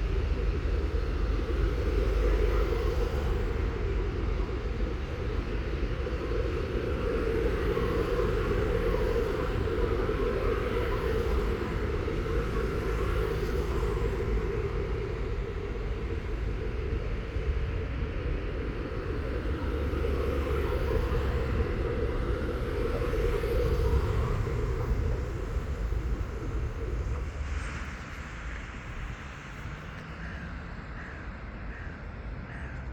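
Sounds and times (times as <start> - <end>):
outdoor rumble and hiss: 0.0 - 32.9.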